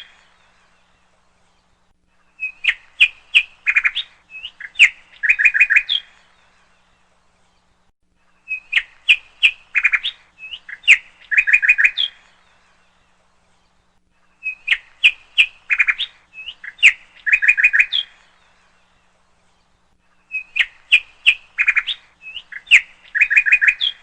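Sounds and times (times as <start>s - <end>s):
songbird chirping and trilling: 0.0s - 24.0s.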